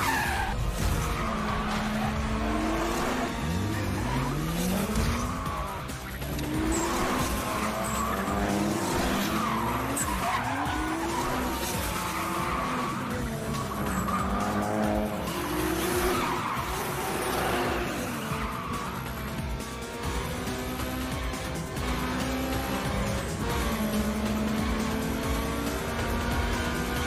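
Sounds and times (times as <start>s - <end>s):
music: 0.0s - 27.0s
sports car engines revving: 0.0s - 27.0s
tyres skidding and squealing: 0.0s - 27.0s.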